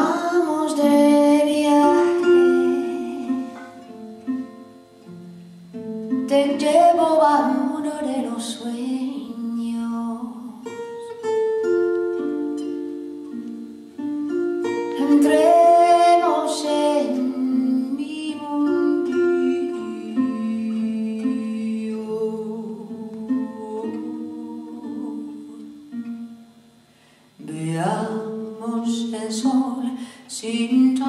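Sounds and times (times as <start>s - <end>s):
plucked guitar: 0.0s - 31.0s.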